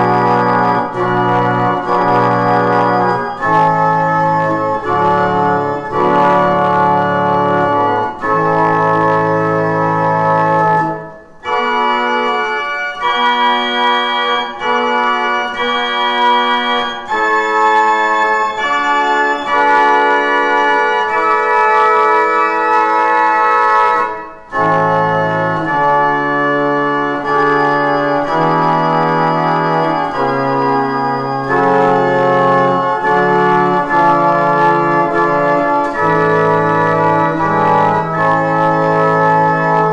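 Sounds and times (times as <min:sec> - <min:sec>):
pipe organ playing: 0:00.0 - 0:39.9.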